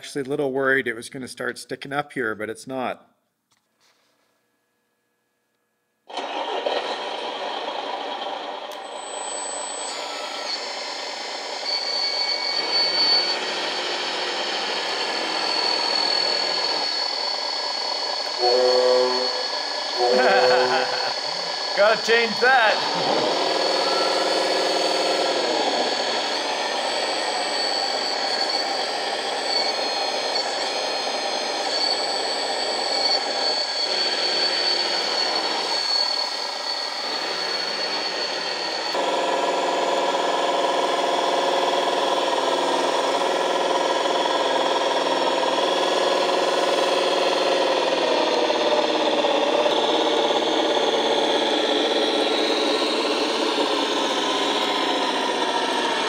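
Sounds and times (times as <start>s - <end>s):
high motor whine: 6.1s - 56.0s
simulated diesel engine: 6.1s - 56.0s.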